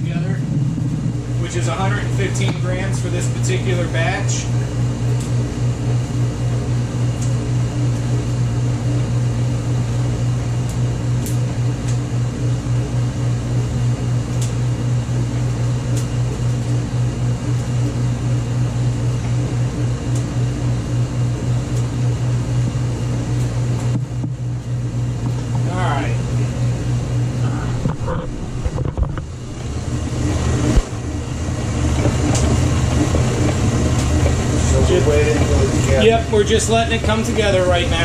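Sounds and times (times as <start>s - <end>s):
stand mixer motor humming: 0.0s - 25.6s, 26.2s - 38.0s.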